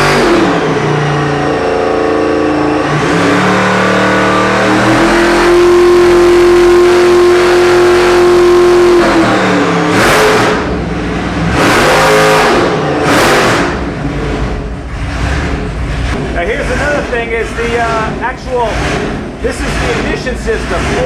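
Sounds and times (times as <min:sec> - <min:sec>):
engine throttle blips: 0:00.0 - 0:21.0
supercharged engine revving: 0:00.0 - 0:21.0.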